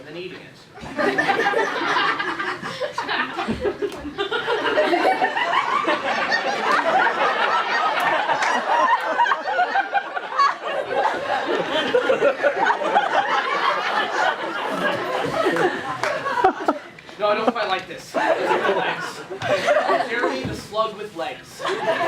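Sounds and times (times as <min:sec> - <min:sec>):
audience laughing: 0:00.8 - 0:20.6, 0:21.5 - 0:22.0.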